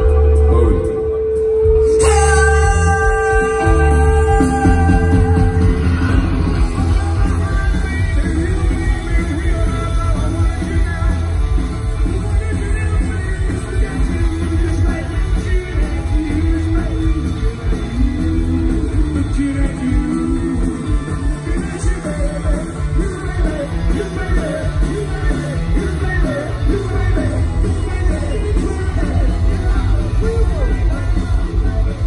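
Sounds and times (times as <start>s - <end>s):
bass guitar: 0.0s - 32.0s
drums: 0.0s - 32.0s
electric guitar: 0.0s - 32.0s
man singing lead: 0.0s - 32.0s.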